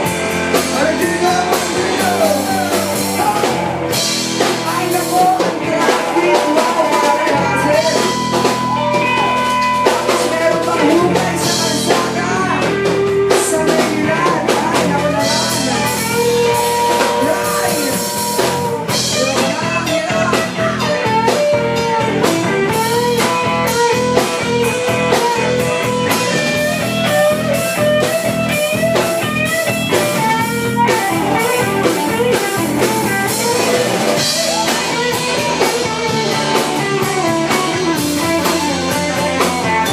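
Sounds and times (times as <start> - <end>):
band playing rock song: 0.0 - 39.9
drum kit: 0.0 - 39.9
guitar: 0.0 - 39.9.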